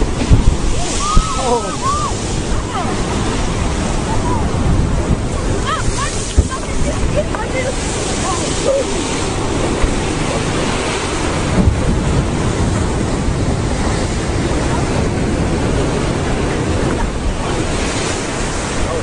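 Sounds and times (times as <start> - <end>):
surf breaking on rocks: 0.0 - 19.0
wind buffeting microphone: 0.0 - 19.0.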